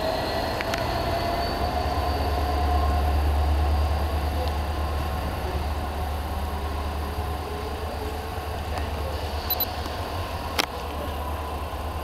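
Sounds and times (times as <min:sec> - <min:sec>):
locomotive engine droning: 0:00.0 - 0:12.0.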